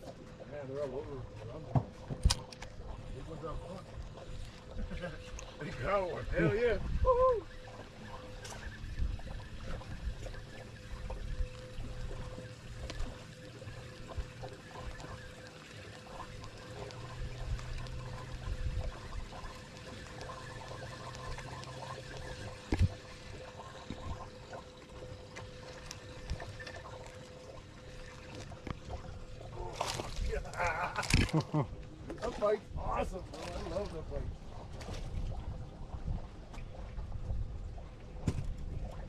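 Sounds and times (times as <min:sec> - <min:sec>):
waves lapping against hull: 0:00.0 - 0:39.0.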